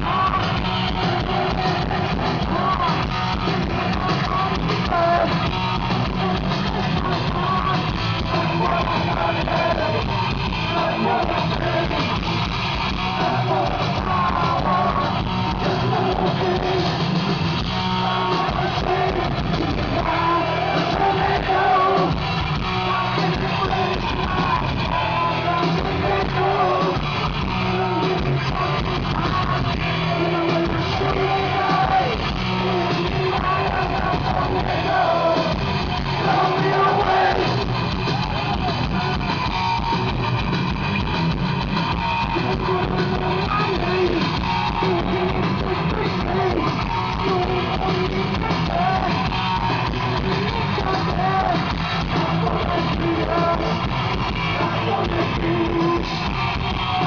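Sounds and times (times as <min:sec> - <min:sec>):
person singing: 0:00.0 - 0:12.2, 0:13.2 - 0:17.0, 0:18.0 - 0:22.2, 0:22.8 - 0:27.0, 0:27.6 - 0:37.6, 0:42.2 - 0:56.3
bass: 0:00.0 - 0:57.0
distorted electric guitars: 0:00.0 - 0:57.0
drums: 0:00.0 - 0:57.0.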